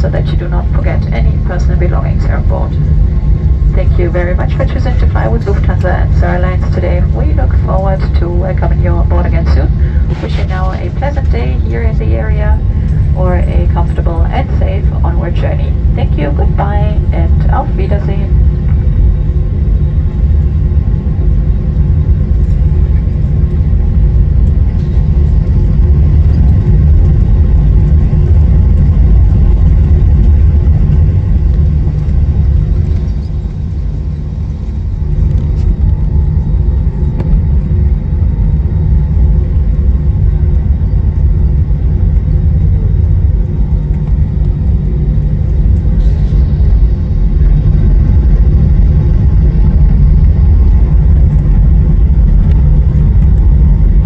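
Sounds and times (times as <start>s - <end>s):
airliner cabin rumble: 0.0s - 54.0s
faint steady tones: 0.0s - 54.0s.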